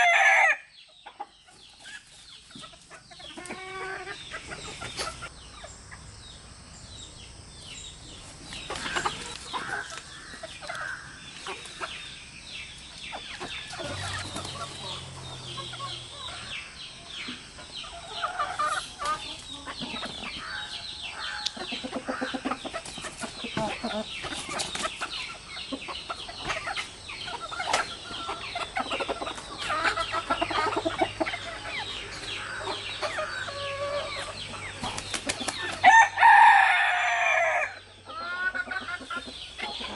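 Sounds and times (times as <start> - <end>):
hens and roosters clucking: 0.0 - 39.9.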